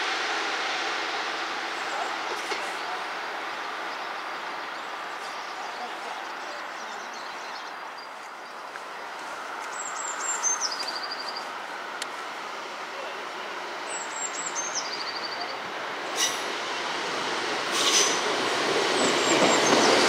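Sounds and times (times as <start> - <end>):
train rumble and rail noise: 0.0 - 20.0.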